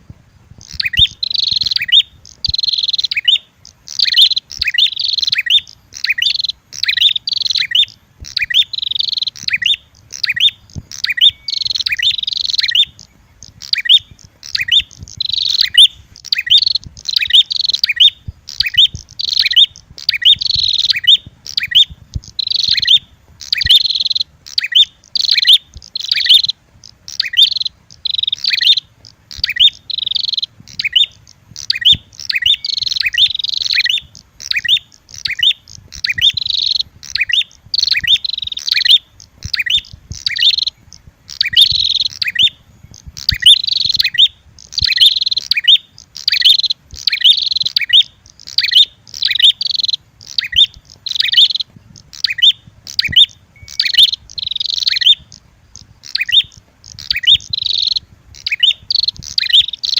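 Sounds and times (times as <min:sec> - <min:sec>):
bird calls chattering: 0:00.6 - 0:59.9.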